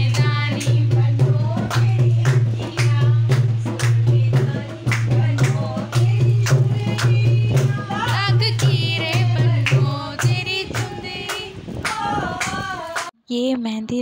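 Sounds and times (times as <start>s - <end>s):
percussion beat: 0.0s - 13.1s.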